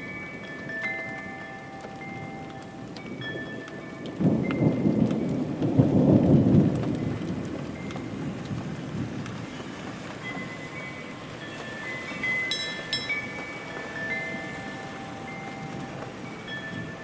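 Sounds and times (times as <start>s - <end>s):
steady rainfall: 0.0s - 17.0s
thunder rumbling: 2.1s - 17.0s.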